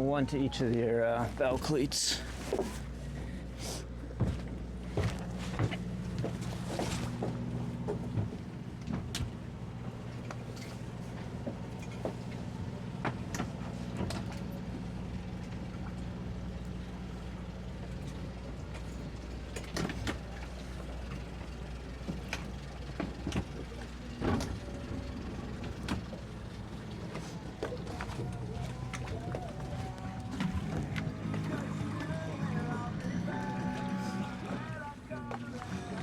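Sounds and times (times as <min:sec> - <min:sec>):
outboard engines idling: 0:00.0 - 0:36.0.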